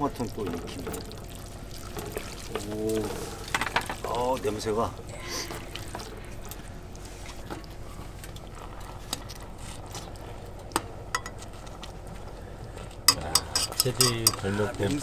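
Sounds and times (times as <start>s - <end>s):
sauce simmering in a pot: 0.0s - 15.0s.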